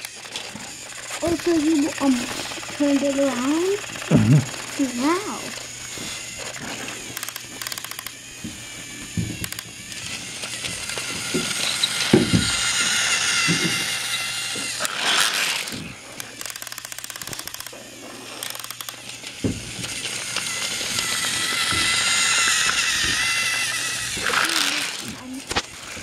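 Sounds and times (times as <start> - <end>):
toy train motor buzzing: 0.0 - 26.0.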